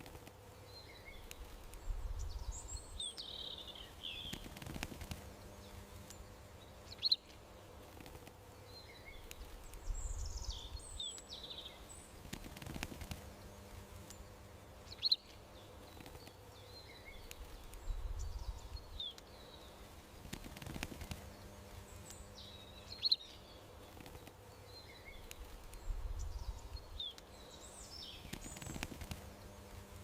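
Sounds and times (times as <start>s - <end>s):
outdoor background hum: 0.0s - 30.0s
small birds chirping: 0.0s - 30.0s.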